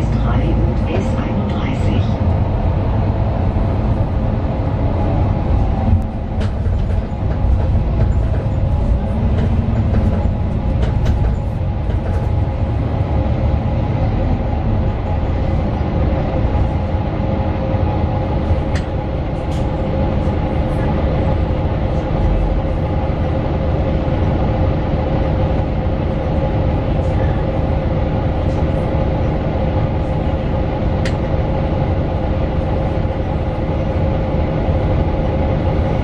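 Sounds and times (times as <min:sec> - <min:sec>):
bus engine low rumble: 0:00.0 - 0:36.0.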